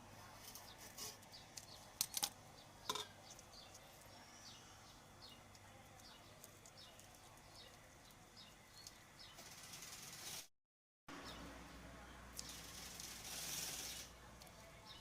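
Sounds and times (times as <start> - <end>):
small birds chirping: 0.3 - 10.5, 11.1 - 15.0.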